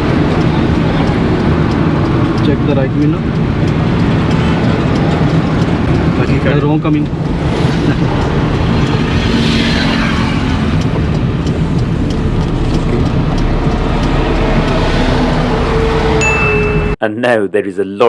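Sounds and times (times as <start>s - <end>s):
car engine hum and road noise: 0.0s - 17.0s
vehicle passing: 0.0s - 17.0s.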